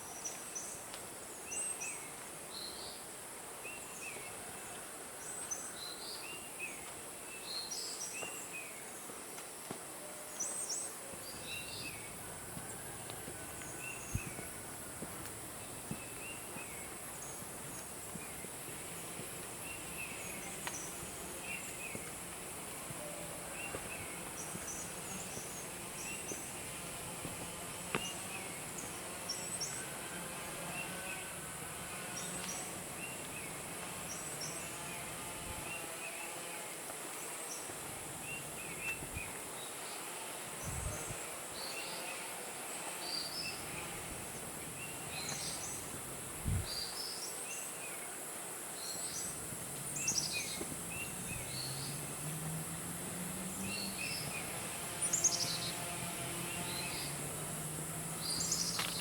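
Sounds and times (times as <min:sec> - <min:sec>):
insects hissing: 0:10.7 - 0:59.0.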